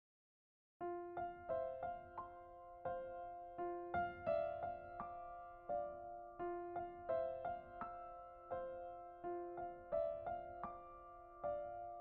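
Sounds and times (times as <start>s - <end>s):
slow soft piano music: 0.8s - 12.0s.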